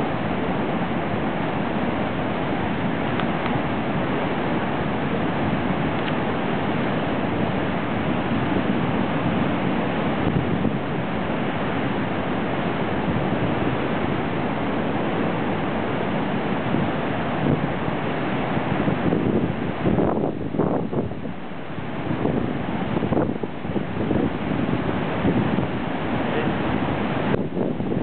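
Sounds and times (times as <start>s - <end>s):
storm surf breaking on jetty: 0.0s - 28.0s
wind buffeting microphone: 2.6s - 28.0s.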